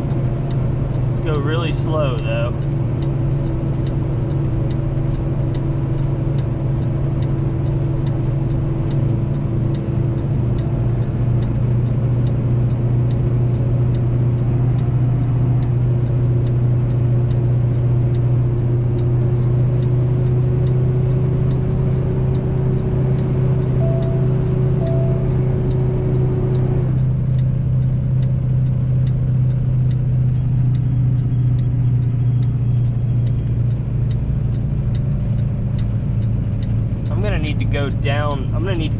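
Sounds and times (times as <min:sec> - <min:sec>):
faint regular ticking: 0:00.0 - 0:38.9
truck diesel engine droning: 0:00.0 - 0:38.9.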